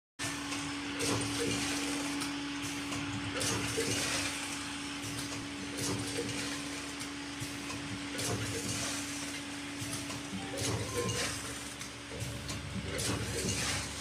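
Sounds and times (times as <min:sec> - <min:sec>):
machine humming and hissing: 0:00.2 - 0:14.0.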